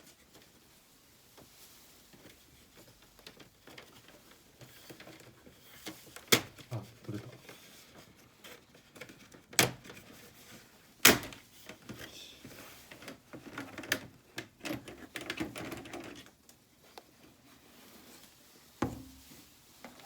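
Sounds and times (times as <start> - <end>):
rustling: 0.0 - 14.1, 15.1 - 20.0.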